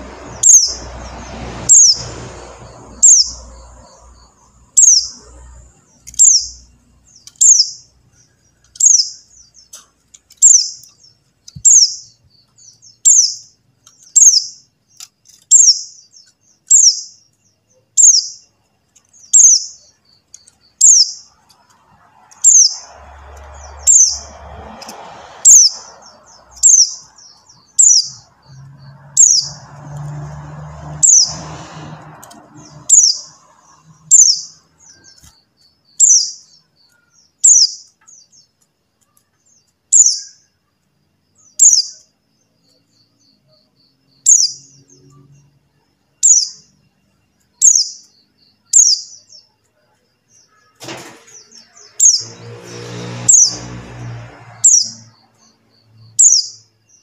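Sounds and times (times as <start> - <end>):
bird chirps sliding downward: 0.0 - 40.5, 41.4 - 45.6, 46.2 - 49.5, 51.3 - 57.0.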